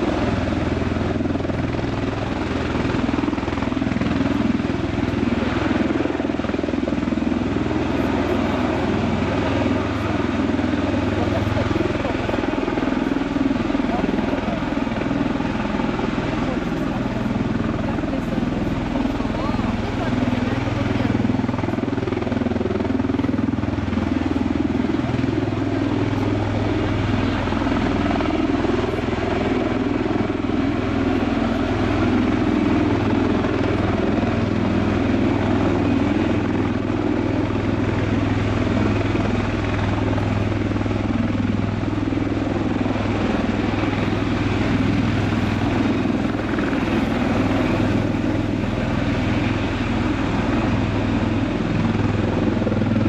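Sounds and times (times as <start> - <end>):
tiltrotor aircraft deep drone: 0.0 - 53.0.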